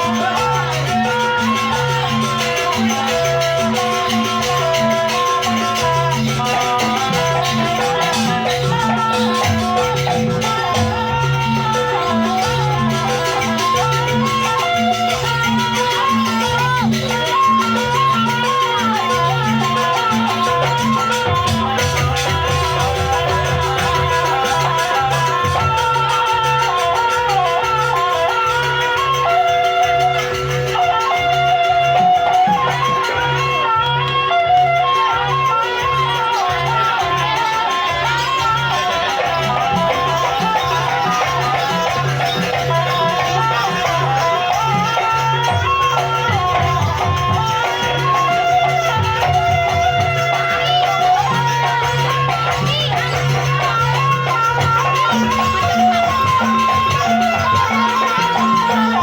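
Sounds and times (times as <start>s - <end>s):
gamelan melody: 0.0s - 59.0s
shaker-like rattling: 0.0s - 59.0s.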